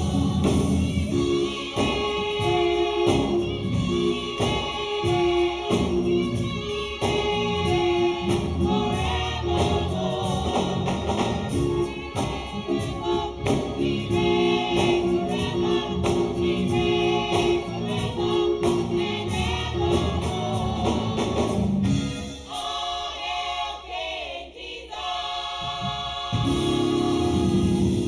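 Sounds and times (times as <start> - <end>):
instrumental accompaniment: 0.0 - 23.6, 25.6 - 28.0
gospel choir singing in harmony: 0.0 - 28.0.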